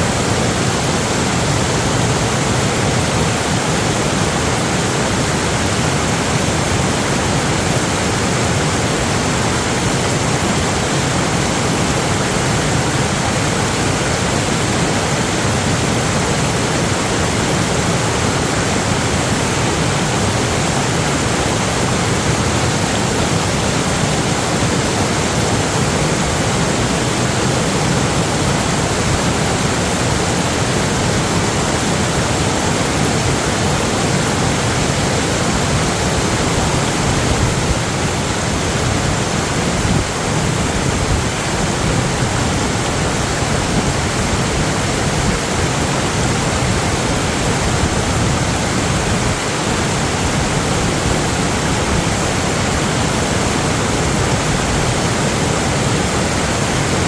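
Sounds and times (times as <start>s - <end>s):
rushing floodwater: 0.0s - 57.0s.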